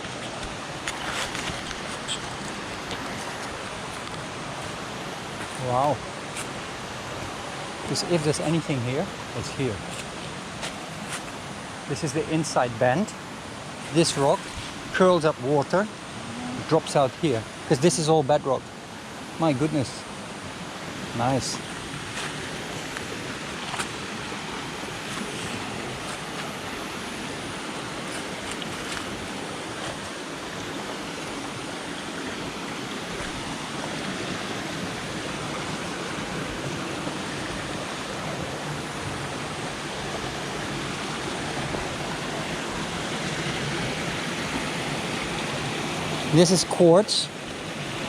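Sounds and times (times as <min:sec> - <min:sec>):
river water rushing over bedrock: 0:00.0 - 0:48.0.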